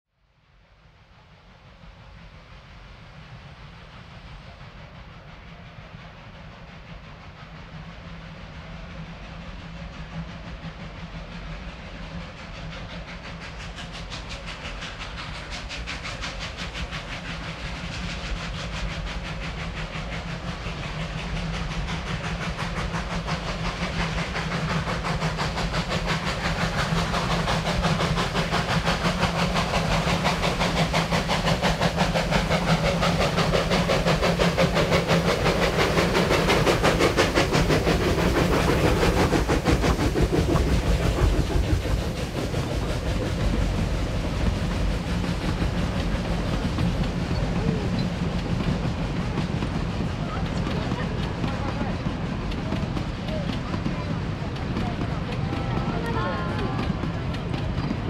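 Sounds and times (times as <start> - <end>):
steam locomotive exhaust beats: 0.3 - 58.0.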